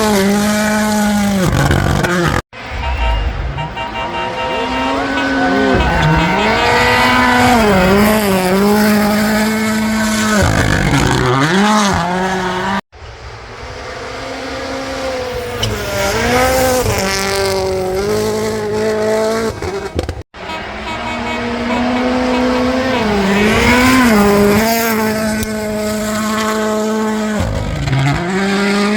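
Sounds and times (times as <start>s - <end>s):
rally car engines revving: 0.0s - 28.9s.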